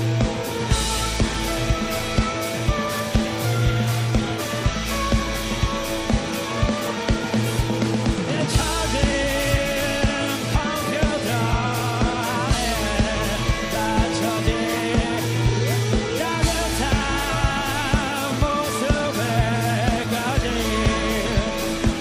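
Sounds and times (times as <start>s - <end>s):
person singing: 0.0s - 22.0s
rock band playing live: 0.0s - 22.0s.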